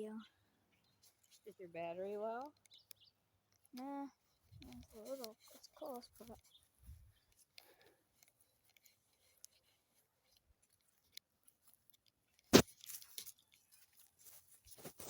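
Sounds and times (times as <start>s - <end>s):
soft crackles: 0.1s - 15.0s.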